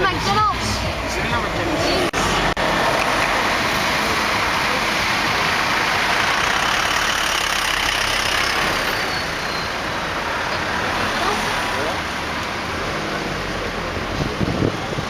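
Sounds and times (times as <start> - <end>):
car engine and road noise: 0.0 - 15.0
truck passing close: 0.0 - 15.0.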